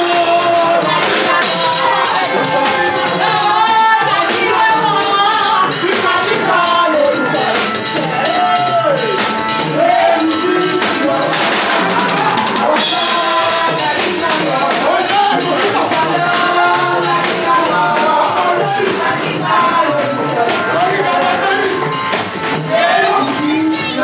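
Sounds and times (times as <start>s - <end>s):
drum kit beat: 0.0s - 24.0s
voices singing: 0.0s - 24.0s.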